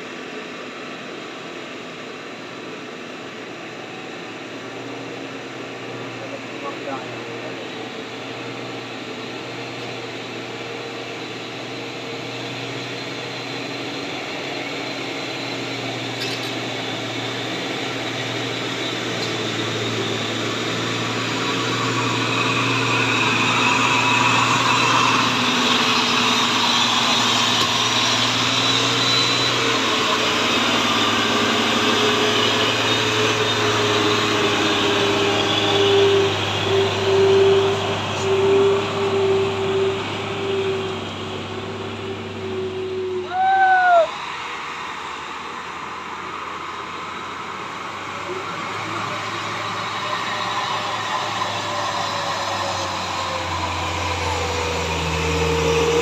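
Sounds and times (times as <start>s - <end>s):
truck diesel engine climbing: 0.0s - 56.0s.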